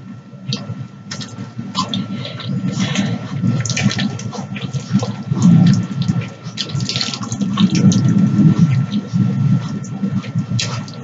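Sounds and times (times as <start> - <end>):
wet chewing and mouth smacking: 0.5 - 11.0.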